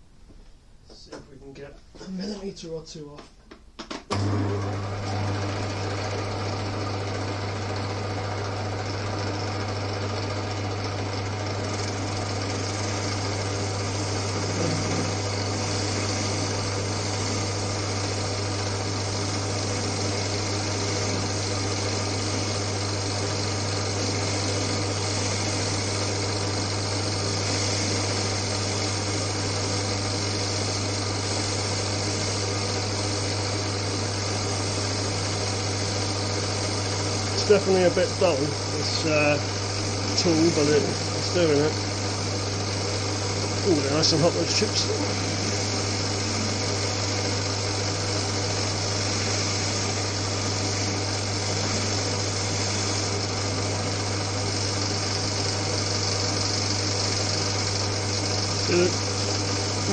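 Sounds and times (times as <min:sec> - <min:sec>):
metal lathe motor humming: 0:04.1 - 0:59.9
hiss of metal cutting: 0:10.4 - 0:59.9.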